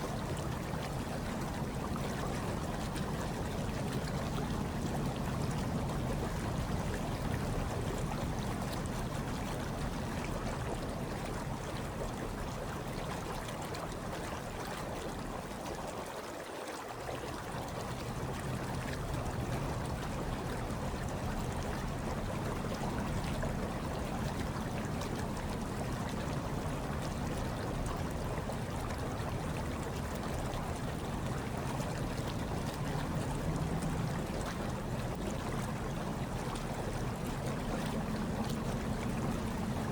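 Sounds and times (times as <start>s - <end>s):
hot tub water bubbling: 0.0s - 39.9s.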